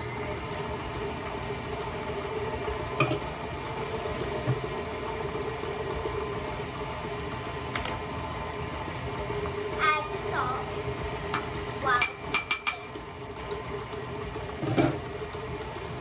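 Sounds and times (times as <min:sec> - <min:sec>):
electric mixer motor running: 0:00.0 - 0:16.0.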